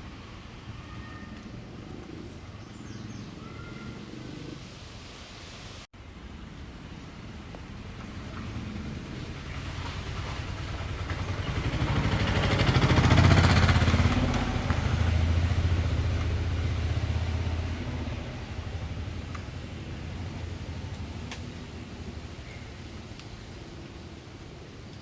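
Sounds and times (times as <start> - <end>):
motor vehicle passing by: 0.0 - 4.8, 6.6 - 24.7.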